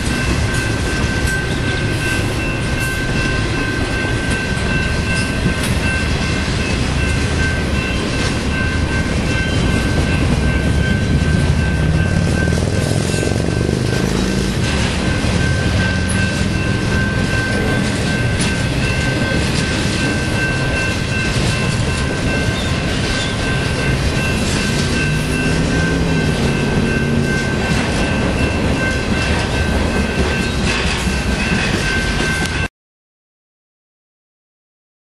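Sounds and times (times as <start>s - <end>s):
train wheels clattering over rails: 0.0s - 32.7s.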